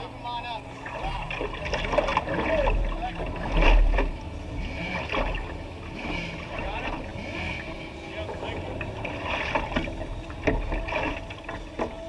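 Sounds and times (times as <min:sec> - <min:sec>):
water slapping against hull: 0:00.6 - 0:12.0.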